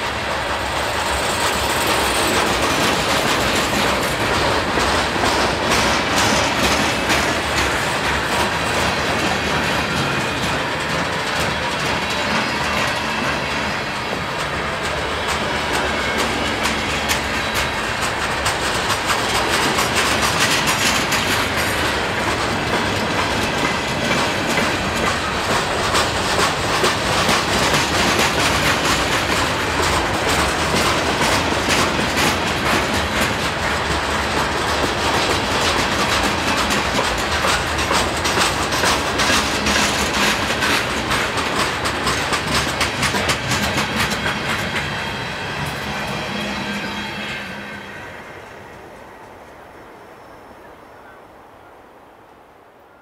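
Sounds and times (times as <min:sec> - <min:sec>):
train wheels clanking over rails: 0:00.0 - 0:49.7.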